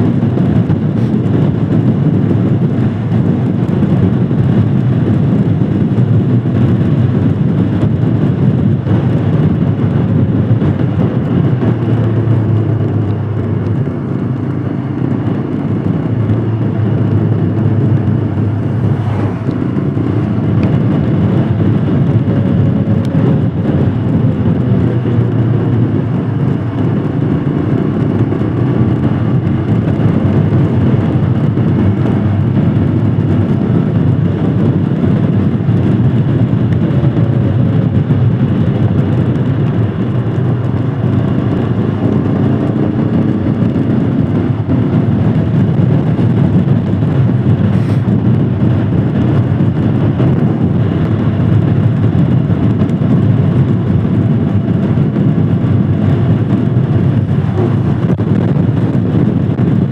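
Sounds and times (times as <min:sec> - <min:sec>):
heavy rushing noise: 0:00.0 - 0:59.9
motorcycle engine running: 0:00.0 - 0:59.9.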